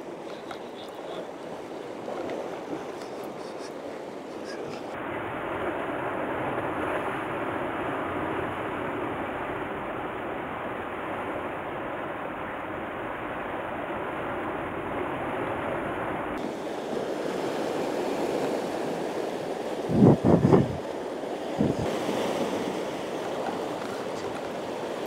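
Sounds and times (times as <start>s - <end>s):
waves breaking on rocks: 0.0s - 25.0s.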